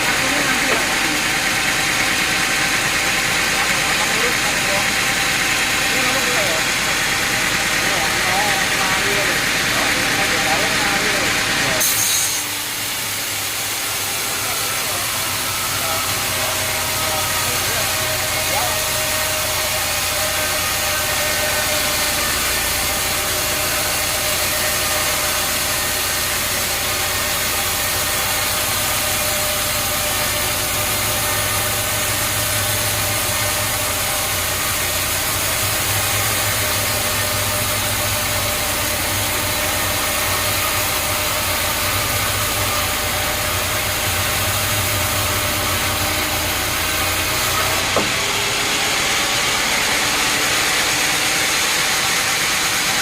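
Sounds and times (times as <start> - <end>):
sawmill machinery drone: 0.0 - 53.0.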